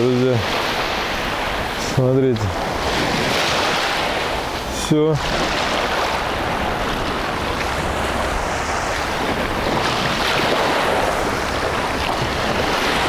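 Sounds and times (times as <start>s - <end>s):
small waves washing on beach: 0.0s - 13.0s
wind on microphone: 0.0s - 13.0s.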